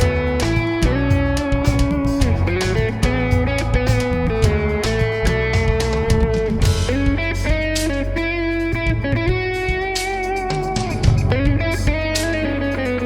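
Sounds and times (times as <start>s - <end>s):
bass line: 0.0s - 13.0s
drums: 0.0s - 13.0s
electric guitar melody: 0.0s - 13.0s.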